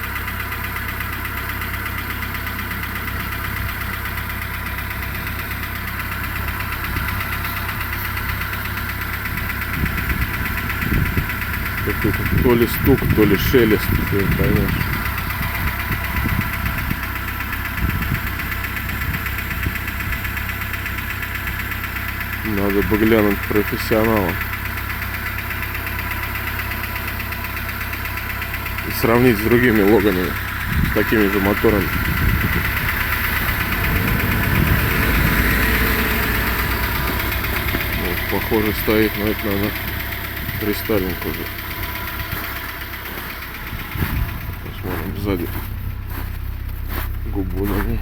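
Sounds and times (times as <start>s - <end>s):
car engine idling: 0.0s - 48.0s
engine chattering knock: 0.0s - 48.0s.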